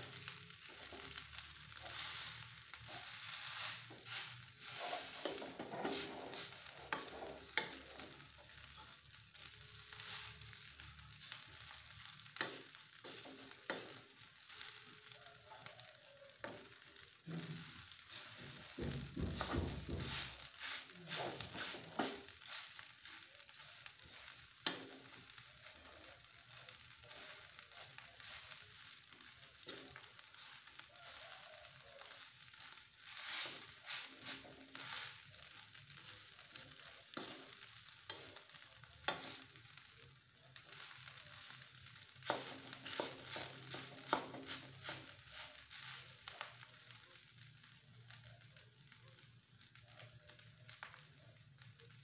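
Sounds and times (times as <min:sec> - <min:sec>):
spatula scraping a wok: 0:00.0 - 0:47.7
rice sizzling in a wok: 0:00.0 - 0:52.0.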